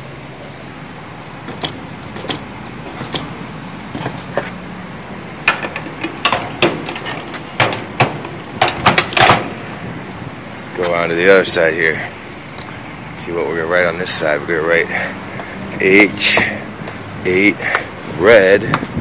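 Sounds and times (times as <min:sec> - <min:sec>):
street traffic hum: 0:00.0 - 0:19.0.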